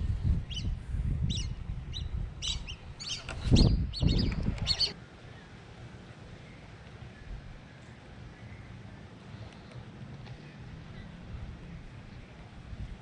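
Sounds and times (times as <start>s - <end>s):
small birds chirping: 0.5s - 12.6s.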